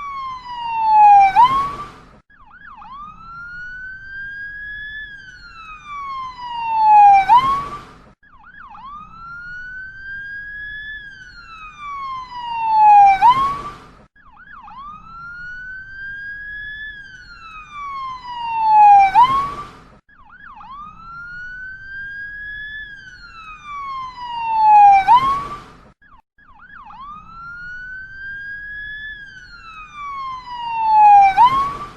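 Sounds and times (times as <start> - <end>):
ambulance siren wailing: 0.0 - 31.9.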